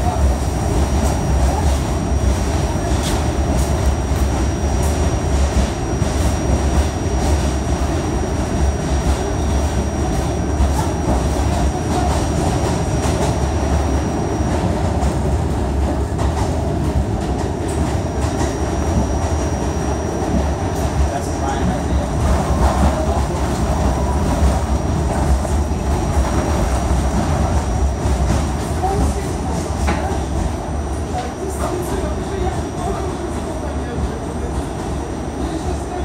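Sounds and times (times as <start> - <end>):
subway wheels rumbling on rail: 0.0 - 36.0.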